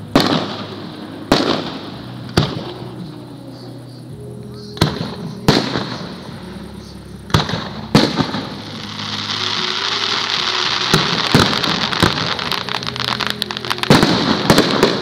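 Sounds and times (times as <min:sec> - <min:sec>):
firework shells bursting with bangs: 0:00.0 - 0:03.1, 0:04.8 - 0:06.5, 0:07.2 - 0:15.0.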